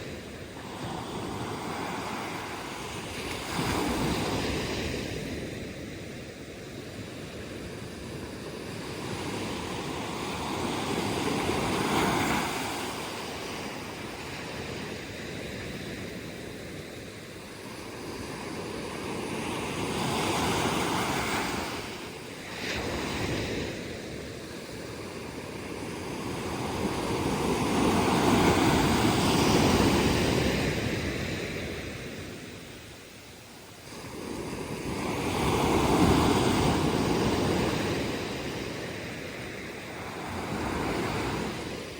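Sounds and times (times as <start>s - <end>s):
ocean waves breaking on shore: 0.0s - 41.9s.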